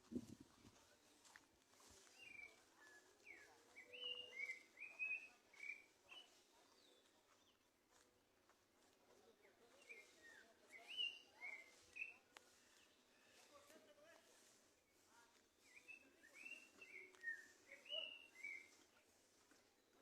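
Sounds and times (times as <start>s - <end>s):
songbird singing: 1.3s - 7.8s, 9.5s - 13.5s, 14.4s - 20.0s.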